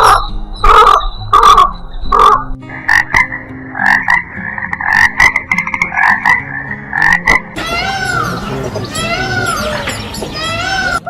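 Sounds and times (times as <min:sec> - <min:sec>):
frog croaking: 0:00.0 - 0:11.0.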